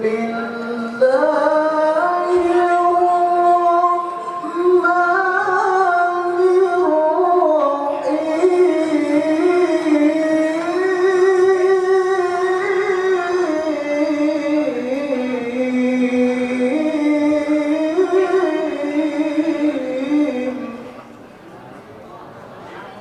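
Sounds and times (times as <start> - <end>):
person reciting melodically: 0.0 - 21.2.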